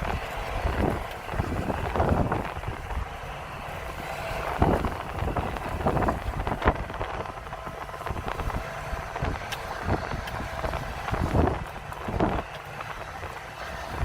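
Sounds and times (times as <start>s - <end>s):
combine harvester engines rumbling: 0.0s - 14.0s
wind buffeting microphone: 0.0s - 14.0s.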